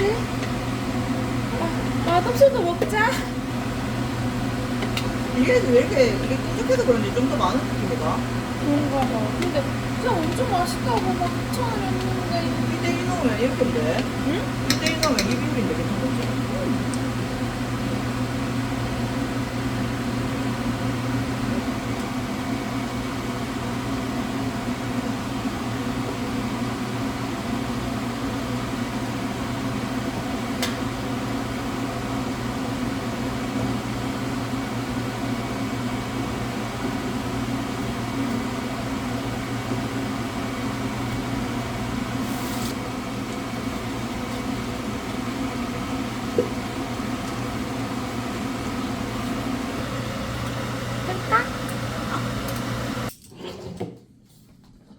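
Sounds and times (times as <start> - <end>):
kitchen appliance motor hum: 0.0 - 53.7.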